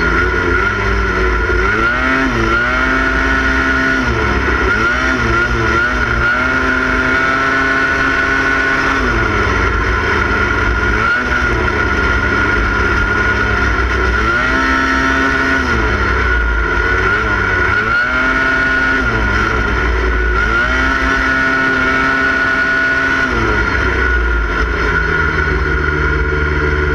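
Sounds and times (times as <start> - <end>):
car engine revving: 0.0 - 26.9
steady high whine: 0.0 - 26.9.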